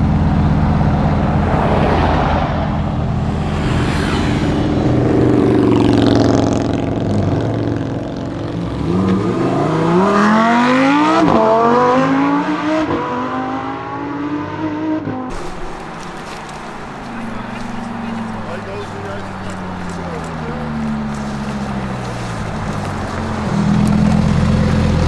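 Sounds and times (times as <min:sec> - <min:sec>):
sports car engine accelerating: 0:00.0 - 0:25.0.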